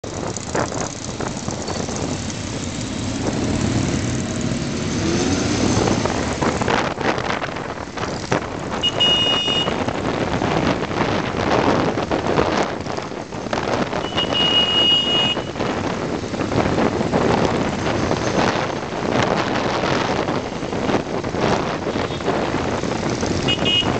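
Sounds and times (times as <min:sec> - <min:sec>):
motorcycle engines: 0:00.0 - 0:23.9
wind buffeting microphone: 0:00.0 - 0:23.9.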